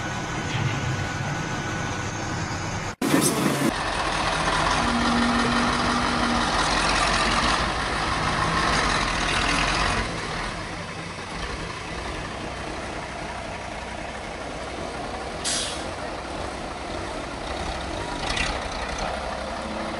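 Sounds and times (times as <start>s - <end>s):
truck diesel engine driving: 0.0s - 19.9s.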